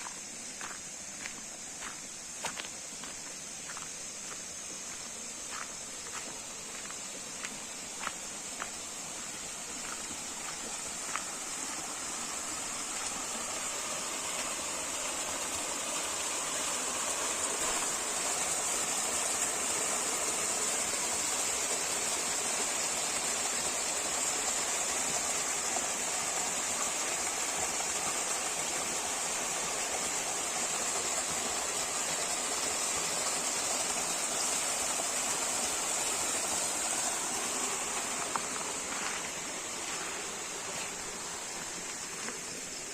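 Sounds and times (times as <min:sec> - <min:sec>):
high-pitched hiss: 0:00.0 - 0:42.9
stream water rushing: 0:00.0 - 0:42.9.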